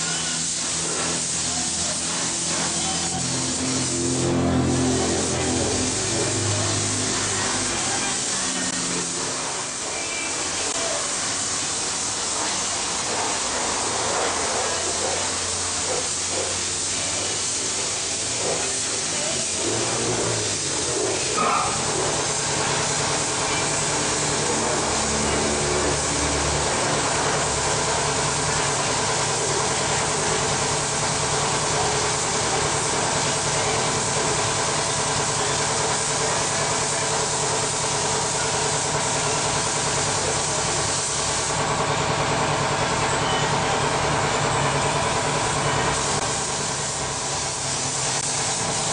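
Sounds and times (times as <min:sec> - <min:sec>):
paint spray gun hissing: 0:00.0 - 0:41.8, 0:45.1 - 0:48.9.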